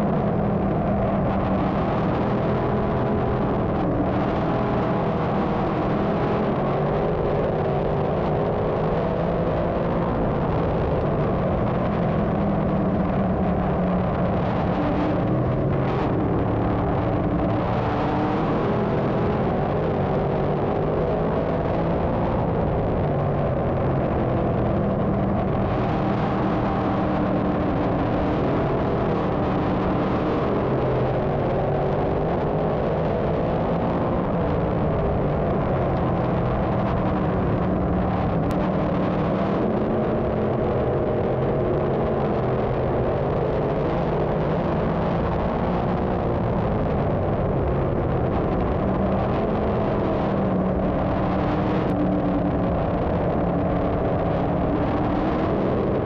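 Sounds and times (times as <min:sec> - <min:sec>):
race car engines running: 0:00.0 - 0:56.0.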